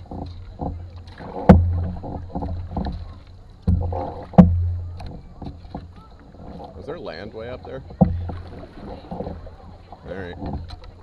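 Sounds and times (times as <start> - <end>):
paddle knocking canoe hull: 0.0 - 11.0
water splashing and sloshing: 0.0 - 11.0.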